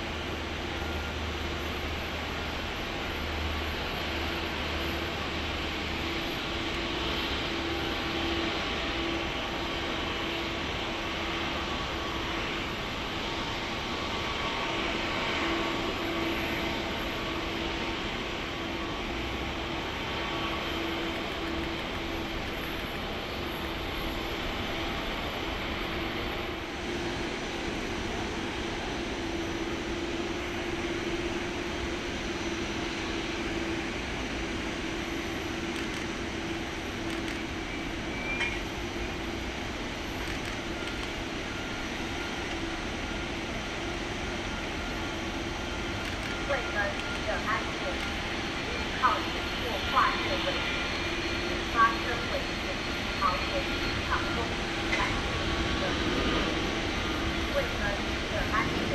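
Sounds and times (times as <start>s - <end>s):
jet engines rushing hum: 0.0s - 58.9s.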